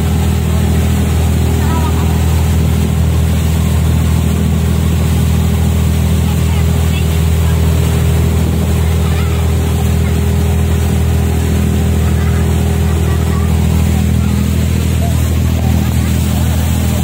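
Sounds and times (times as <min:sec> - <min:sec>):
boat engine running: 0:00.0 - 0:17.0
water churning in wake: 0:00.0 - 0:17.0.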